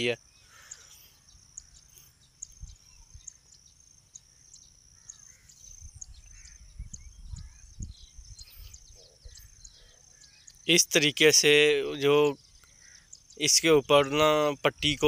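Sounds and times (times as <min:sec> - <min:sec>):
cricket chirping: 0:00.0 - 0:15.0
faint bird calls: 0:00.0 - 0:15.0.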